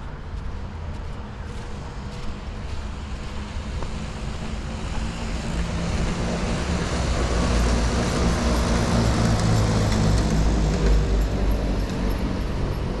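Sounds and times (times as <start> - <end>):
vehicle approaching: 0.0 - 13.0.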